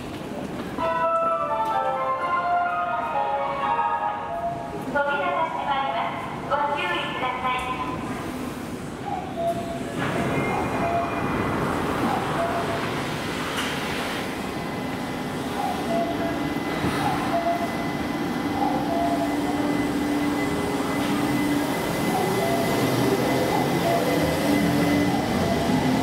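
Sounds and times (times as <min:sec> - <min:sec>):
electric train rumbling: 0:00.0 - 0:26.0.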